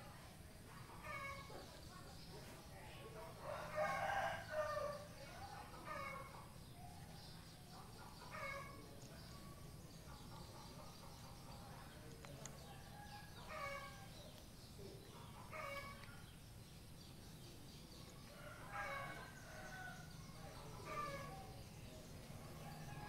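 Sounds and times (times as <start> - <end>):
low steady background noise: 0.0 - 23.0
faint chickens calling: 0.7 - 1.8, 3.0 - 23.0.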